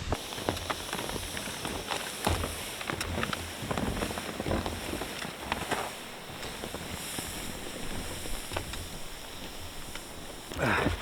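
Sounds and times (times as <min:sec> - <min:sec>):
faint wind rustle: 0:00.0 - 0:11.0
snowshoes crunching through snow: 0:00.0 - 0:11.0.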